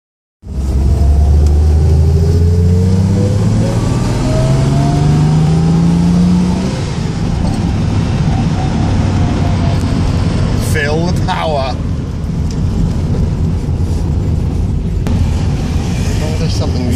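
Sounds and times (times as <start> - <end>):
car engine accelerating: 0.4 - 16.9.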